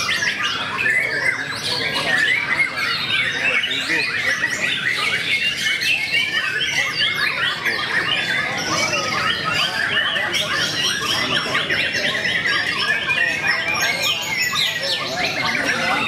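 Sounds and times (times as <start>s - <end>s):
other songbirds singing: 0.0s - 16.0s
songbird singing trills and whistles: 0.0s - 16.0s.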